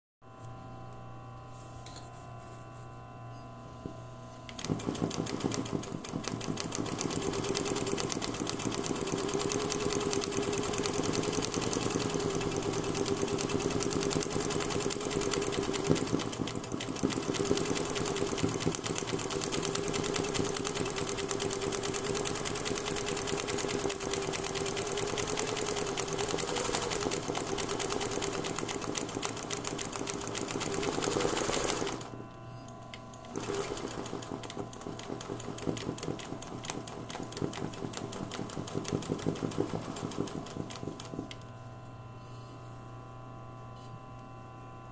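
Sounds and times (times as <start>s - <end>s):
sewing machine whirring: 4.5s - 32.2s, 32.9s - 41.5s.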